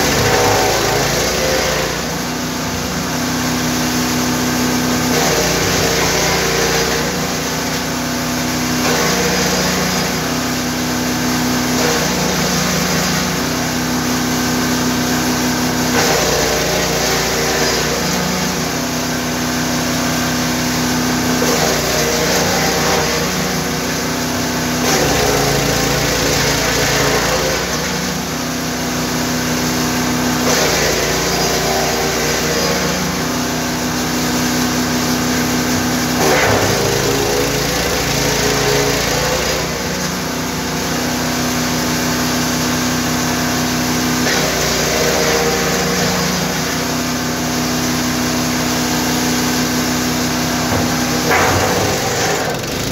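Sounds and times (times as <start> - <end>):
wood chipper engine running: 0.0 - 52.9.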